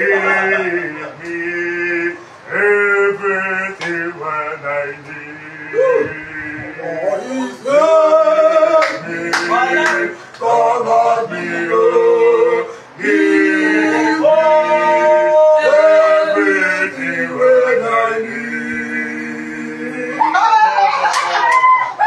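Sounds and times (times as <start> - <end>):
group singing worship chorus: 0.0 - 20.8.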